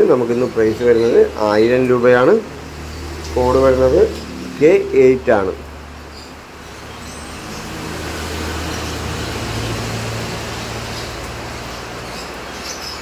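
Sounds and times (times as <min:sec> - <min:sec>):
noisy hiss: 0:00.0 - 0:13.0
vehicle engine passing: 0:00.0 - 0:13.0.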